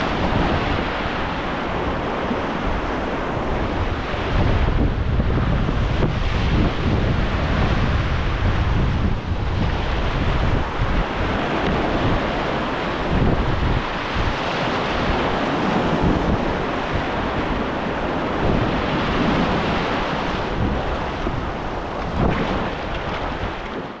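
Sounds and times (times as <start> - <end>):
whitewater rapids rushing: 0.0 - 24.0
wind buffeting microphone: 0.0 - 24.0.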